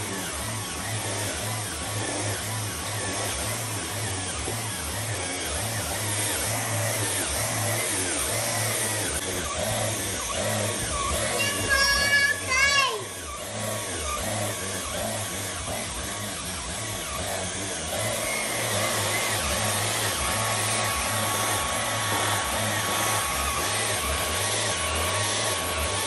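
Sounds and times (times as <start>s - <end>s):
cordless vacuum running: 0.0s - 26.0s.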